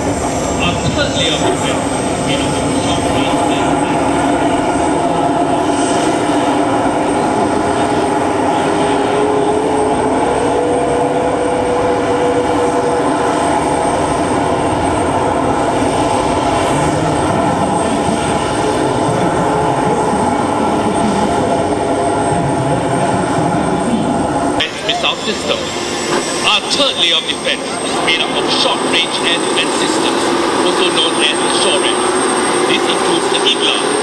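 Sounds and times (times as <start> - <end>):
jet engines idling: 0.0 - 34.0.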